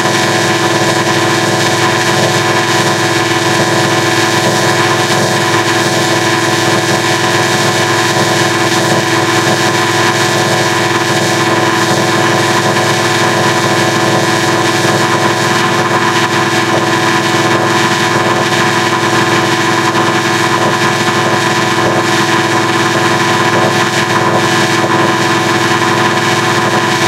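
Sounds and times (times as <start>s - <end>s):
layered electronic drone: 0.0s - 27.0s.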